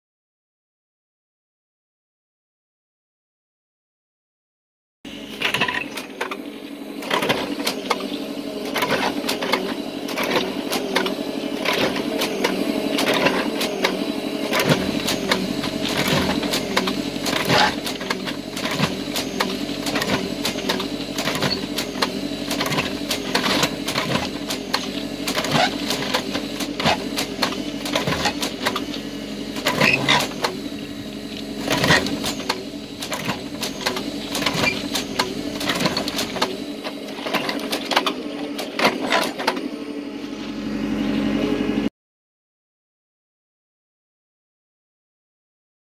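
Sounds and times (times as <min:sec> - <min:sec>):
hydraulic engine drone: 0:05.1 - 0:41.9.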